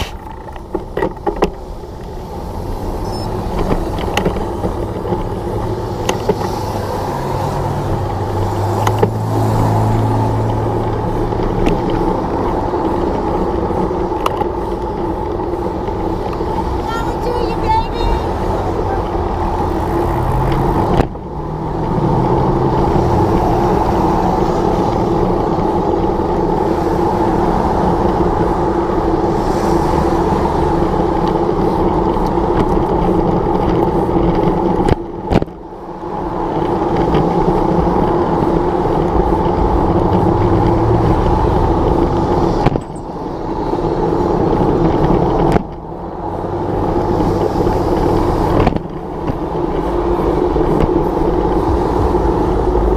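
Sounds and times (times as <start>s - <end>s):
car running on road: 0.0s - 52.9s
wind noise: 0.0s - 52.9s.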